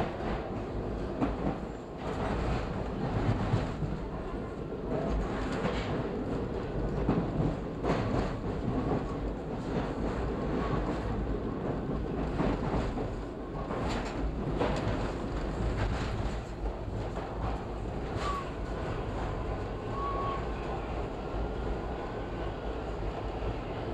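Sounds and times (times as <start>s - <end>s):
subway train wheels rumbling: 0.0s - 23.9s.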